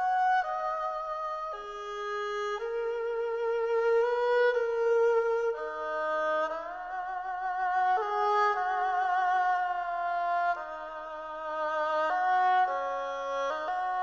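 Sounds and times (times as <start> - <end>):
slow bowed string melody: 0.0 - 14.0.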